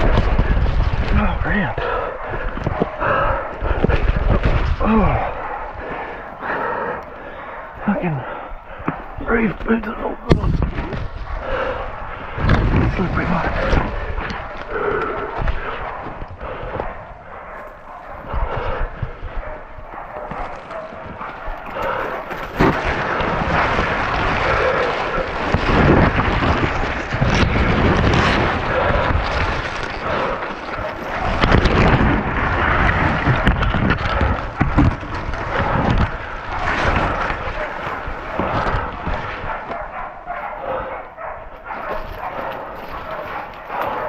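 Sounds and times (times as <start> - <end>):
dogs barking: 1.5 - 10.1, 11.0 - 27.5, 28.2 - 44.0.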